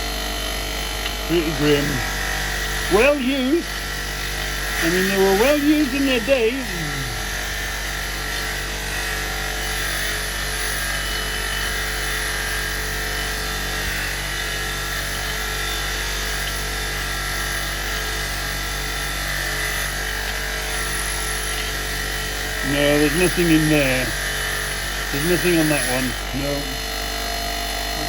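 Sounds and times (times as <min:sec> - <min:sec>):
electric brush buzzing: 0:00.0 - 0:28.0.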